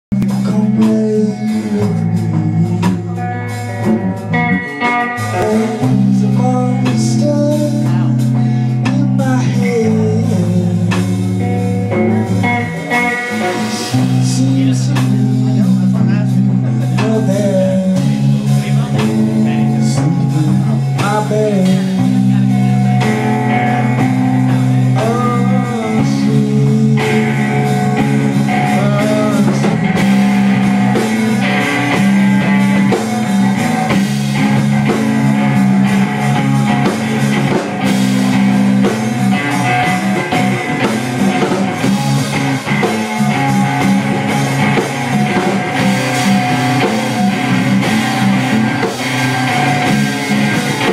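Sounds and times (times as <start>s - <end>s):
electric bass: 0.0s - 50.9s
person singing: 0.1s - 11.6s, 12.2s - 50.9s
drum kit: 0.1s - 50.9s
electric guitar: 0.1s - 50.9s.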